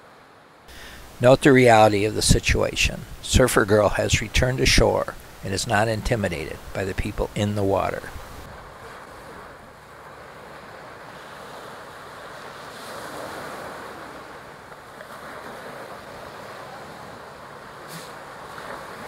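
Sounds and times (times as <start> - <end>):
ocean surf washing on beach: 0.0 - 19.0.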